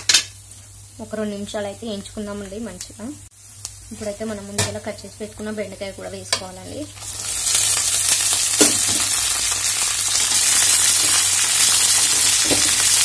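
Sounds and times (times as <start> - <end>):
okra sizzling in hot oil: 0.0 - 13.0.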